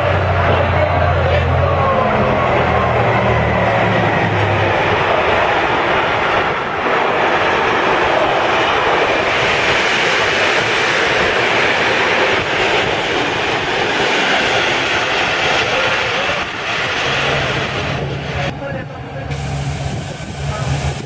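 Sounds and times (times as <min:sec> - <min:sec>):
freight train wheels rushing on rails: 0:00.0 - 0:21.0.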